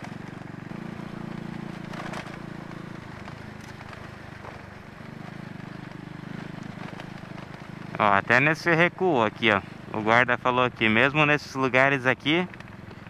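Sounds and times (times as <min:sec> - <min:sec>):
motorcycle engine running: 0:00.0 - 0:13.0
stones crackling under tyres: 0:00.0 - 0:13.0.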